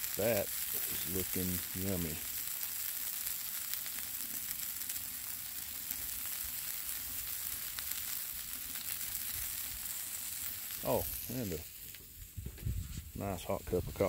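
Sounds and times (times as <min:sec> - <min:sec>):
food sizzling on a griddle: 0:00.0 - 0:14.0.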